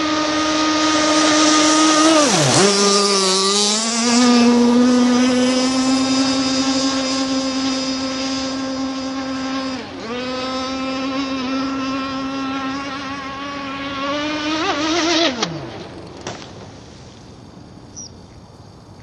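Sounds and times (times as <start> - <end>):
high-pitched racing boat motor: 0.0 - 16.3.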